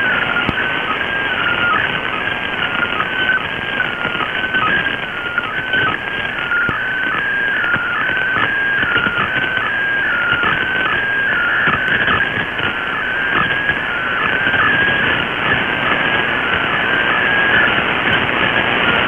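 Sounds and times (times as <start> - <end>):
shortwave static: 0.0 - 19.0.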